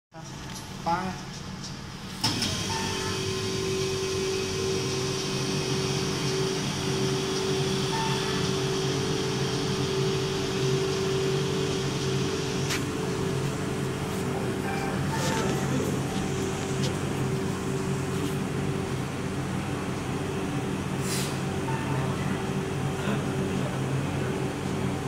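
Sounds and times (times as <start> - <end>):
ice cream machine motor hum: 1.7 - 25.0.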